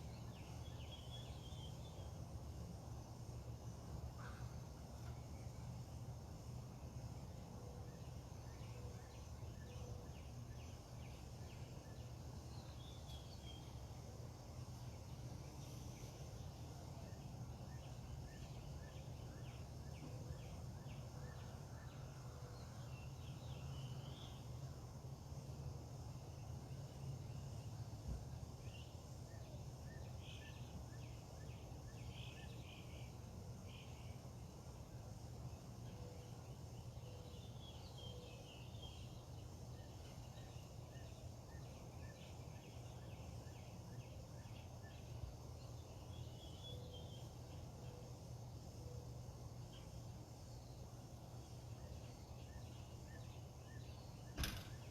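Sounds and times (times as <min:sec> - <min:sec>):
faint low hum: 0:00.0 - 0:54.9.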